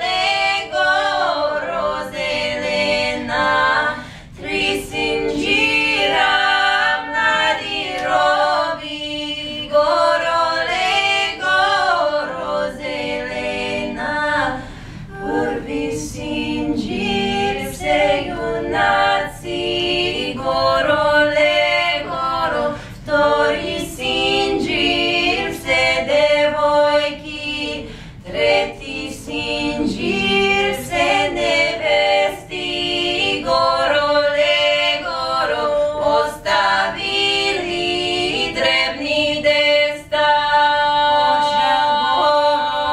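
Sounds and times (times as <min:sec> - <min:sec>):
women singing in harmony: 0:00.0 - 0:42.9.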